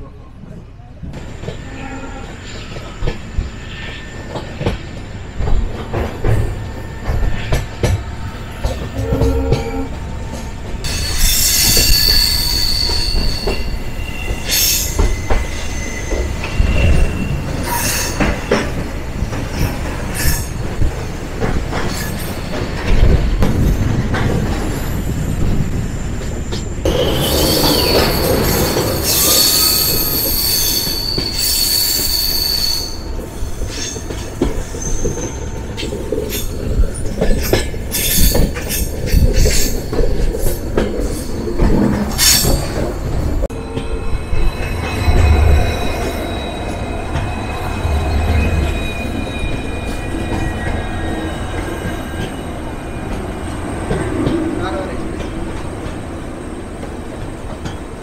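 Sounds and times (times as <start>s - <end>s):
train wheels squealing: 1.2s - 20.7s, 23.6s - 54.6s
wheels clattering on rails: 4.3s - 32.6s, 33.4s - 58.0s.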